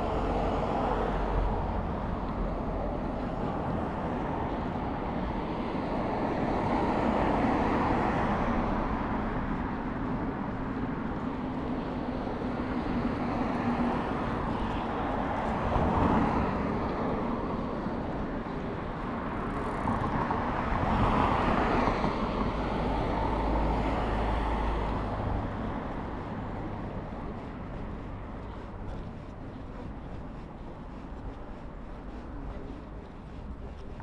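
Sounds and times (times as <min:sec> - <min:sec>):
cars passing: 0:00.0 - 0:34.0.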